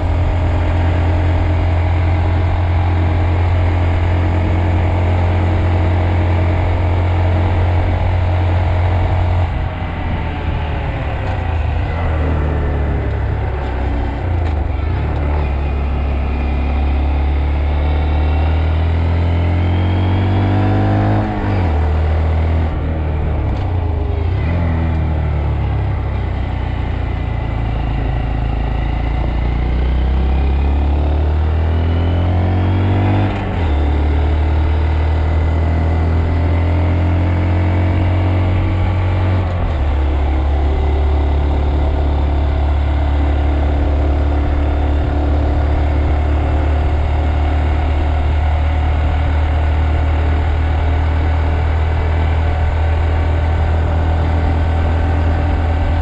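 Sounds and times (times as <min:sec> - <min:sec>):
motorbike engine: 0:00.0 - 0:56.0.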